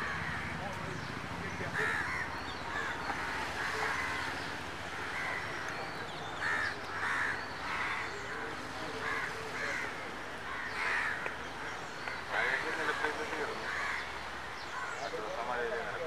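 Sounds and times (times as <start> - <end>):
crows cawing: 0.0 - 0.6, 1.6 - 5.8, 6.4 - 15.2.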